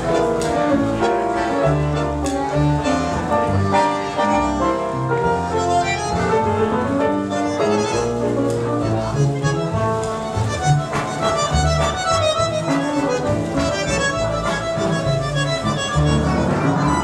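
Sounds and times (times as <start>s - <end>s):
tango music from live quartet: 0.0s - 17.0s.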